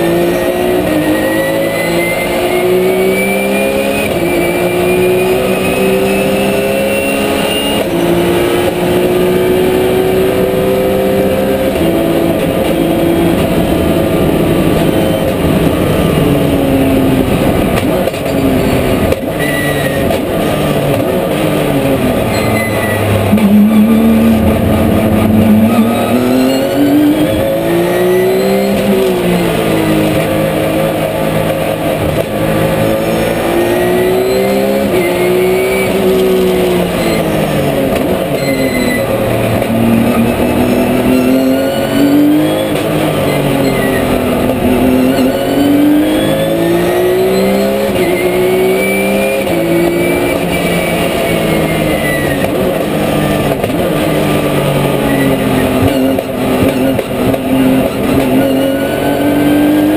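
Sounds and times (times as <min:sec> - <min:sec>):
racing engine revving: 0:00.0 - 0:59.9
high whine: 0:00.1 - 0:59.9.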